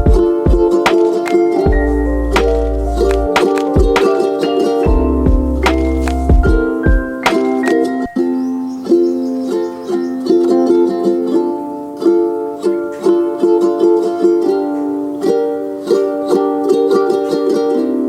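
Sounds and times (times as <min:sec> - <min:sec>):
plucked string melody: 0:00.0 - 0:18.0.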